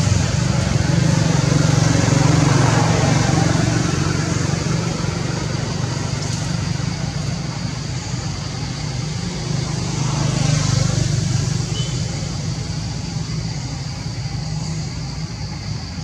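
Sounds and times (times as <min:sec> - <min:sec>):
high even hiss: 0:00.0 - 0:16.0.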